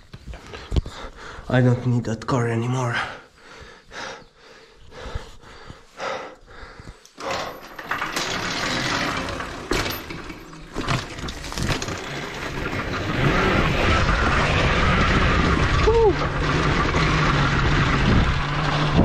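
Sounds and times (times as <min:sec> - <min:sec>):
crackling under tyres: 0:00.0 - 0:01.7, 0:03.4 - 0:19.0
tyres and wind noise: 0:00.0 - 0:19.0.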